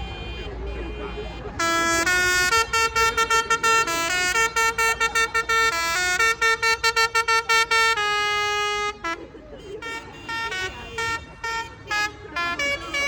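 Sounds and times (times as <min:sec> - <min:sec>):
musical vehicle horn: 0:00.0 - 0:13.0.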